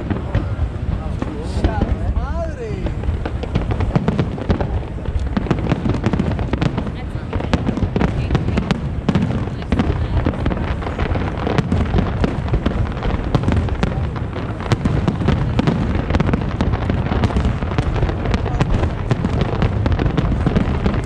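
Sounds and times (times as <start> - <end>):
fireworks booms and crackles: 0.0 - 21.0.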